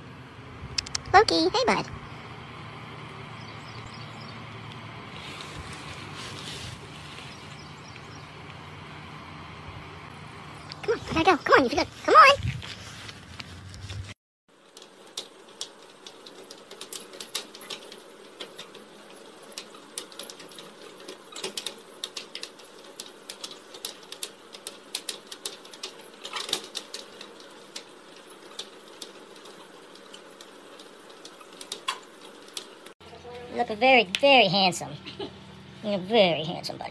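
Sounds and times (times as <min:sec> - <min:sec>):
treadmill motor hum: 0:01.4 - 0:13.4, 0:14.5 - 0:36.9.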